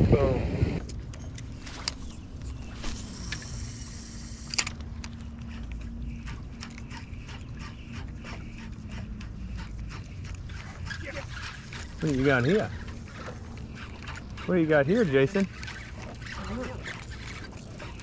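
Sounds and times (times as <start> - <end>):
electric trolling motor hum: 0.0 - 18.0
fishing reels clicking: 0.8 - 18.0.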